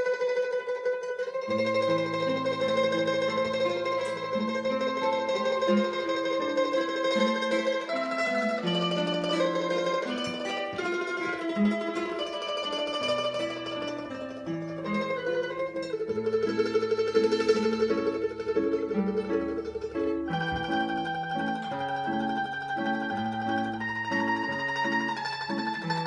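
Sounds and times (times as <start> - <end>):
classical guitar plucking bass notes: 0.0 - 26.0
mandolin playing: 0.0 - 26.0.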